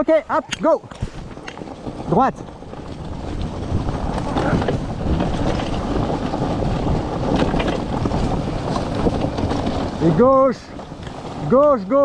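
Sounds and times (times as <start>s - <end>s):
cart frame clicks and knocks: 0.0s - 12.0s
cart wheels rolling on leaves: 0.0s - 12.0s
wind buffeting microphone: 0.0s - 12.0s.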